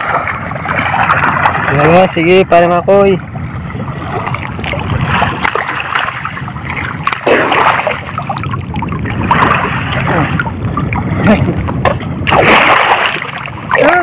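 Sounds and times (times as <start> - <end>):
seawater sloshing and splashing: 0.0 - 2.3, 3.2 - 14.0.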